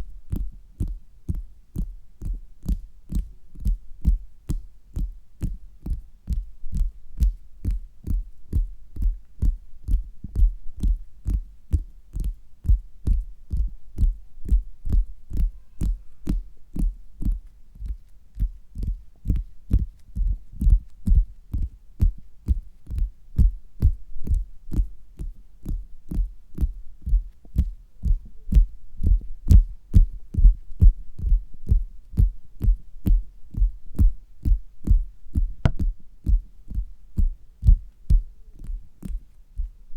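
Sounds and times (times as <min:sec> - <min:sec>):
fingers tapping on stomach: 0:00.3 - 0:39.8.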